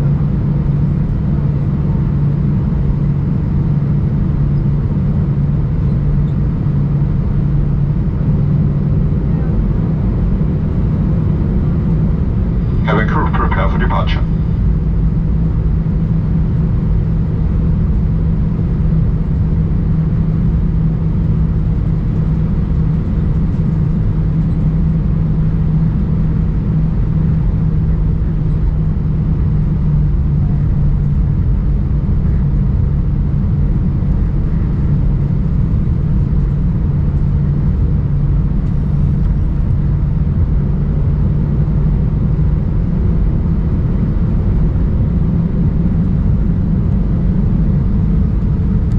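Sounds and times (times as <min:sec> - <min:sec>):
aircraft cabin rumble and hum: 0:00.0 - 0:48.9.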